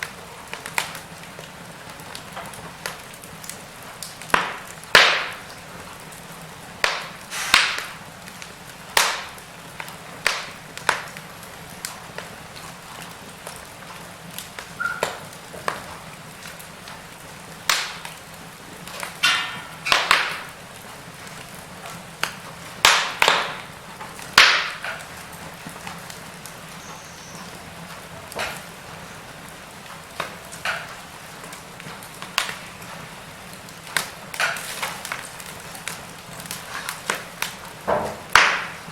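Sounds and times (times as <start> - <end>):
logs crackling in a fireplace: 0.0 - 38.9.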